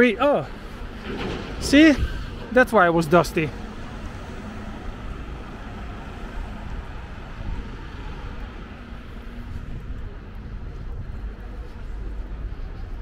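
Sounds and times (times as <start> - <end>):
city ambience rumble: 0.0 - 13.0.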